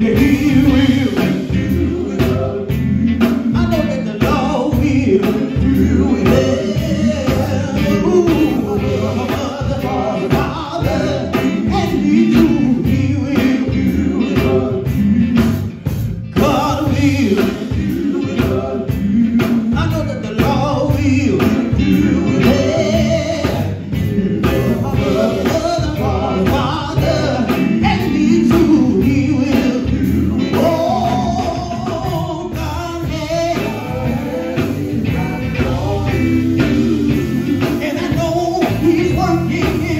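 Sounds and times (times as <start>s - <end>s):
man singing into a microphone: 0.0s - 15.7s, 16.4s - 39.9s
bass guitar: 0.0s - 39.9s
electric guitar: 0.0s - 39.9s.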